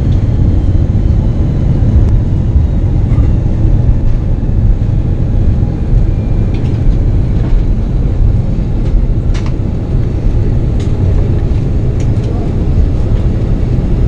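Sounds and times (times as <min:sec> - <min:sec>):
airplane cabin low rumble: 0:00.0 - 0:14.0.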